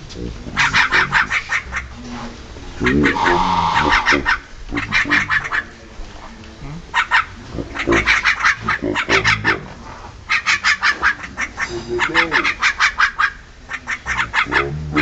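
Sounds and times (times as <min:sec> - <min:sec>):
mynas harsh chattering calls: 0:00.2 - 0:15.0.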